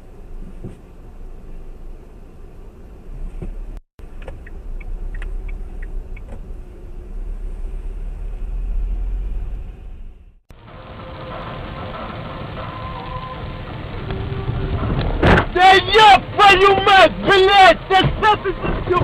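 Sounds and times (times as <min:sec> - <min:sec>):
car driving rumble: 0:00.0 - 0:19.0.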